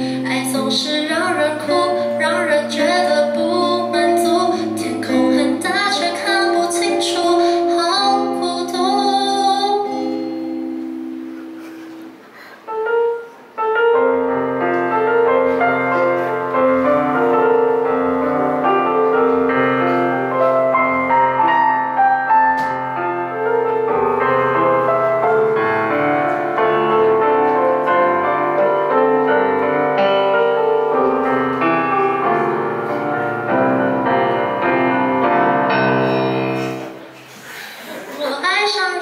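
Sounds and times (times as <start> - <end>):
acoustic guitar: 0.0 - 39.0
keyboard playing piano voice: 0.0 - 39.0.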